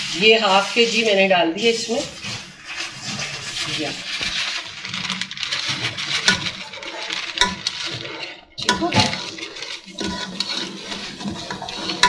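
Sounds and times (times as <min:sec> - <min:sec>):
steel spoon scraping metal pot: 0:00.0 - 0:12.0
sugar pouring from a bag: 0:01.7 - 0:12.0.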